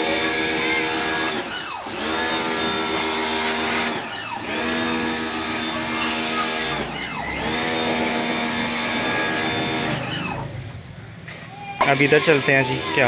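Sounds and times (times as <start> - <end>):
pressure washer motor humming: 0.0 - 10.5, 11.8 - 13.0.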